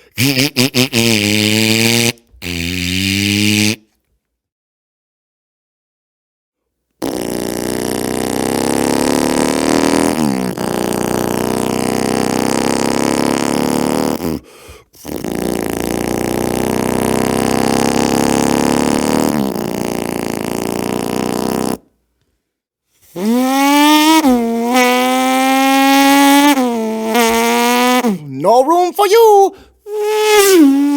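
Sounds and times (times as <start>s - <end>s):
man imitating engine drones: 0.0s - 3.8s, 7.0s - 21.8s, 23.2s - 30.9s
vocal tone sliding up: 0.2s - 3.8s, 7.0s - 14.4s, 15.0s - 21.9s, 23.1s - 30.9s.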